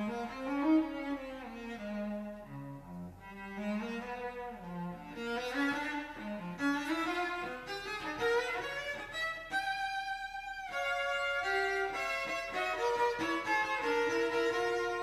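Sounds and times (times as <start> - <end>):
solo cello playing: 0.0 - 15.0.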